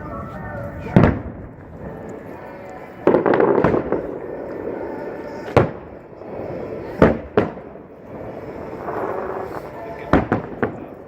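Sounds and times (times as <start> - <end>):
sharp firework bangs: 0.8 - 2.0, 3.0 - 11.0
firework shell burst with crackling: 0.9 - 11.0.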